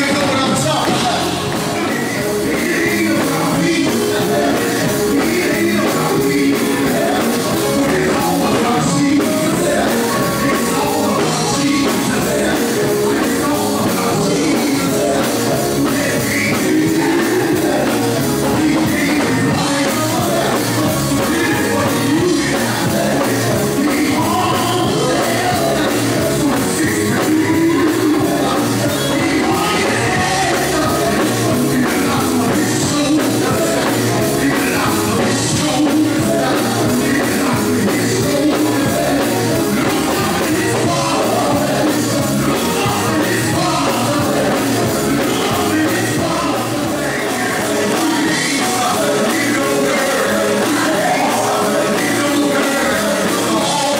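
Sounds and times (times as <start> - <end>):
live gospel band with singing: 0.0 - 53.9.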